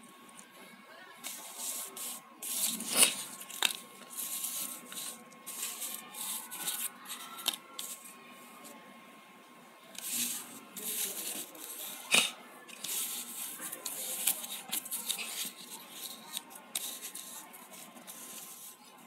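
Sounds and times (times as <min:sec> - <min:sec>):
cardboard pieces scraping: 0:01.3 - 0:08.0, 0:10.0 - 0:18.8.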